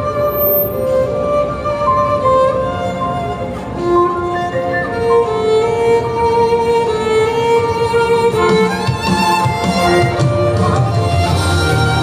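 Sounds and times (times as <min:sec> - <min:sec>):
fuller accompaniment: 0:00.0 - 0:12.0
solo violin melody: 0:00.0 - 0:12.0.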